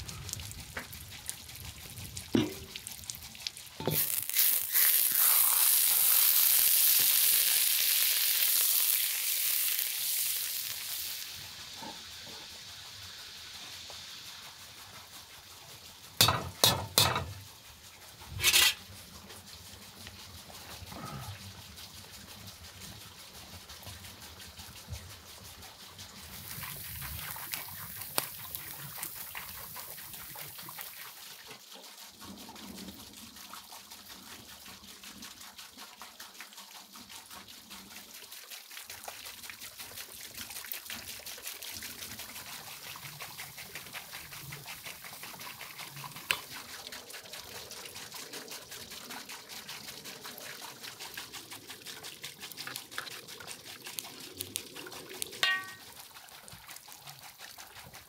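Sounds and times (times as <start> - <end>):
liquid sizzling on coals: 0.0 - 58.0.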